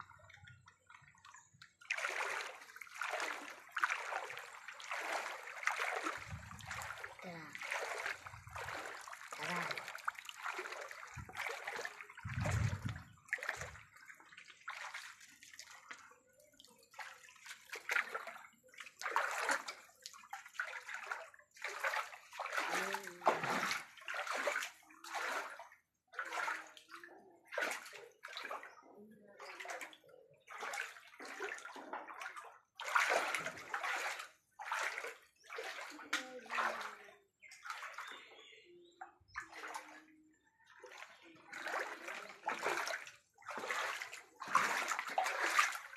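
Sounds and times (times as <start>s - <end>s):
floodwater sloshing and splashing: 0.0s - 45.9s.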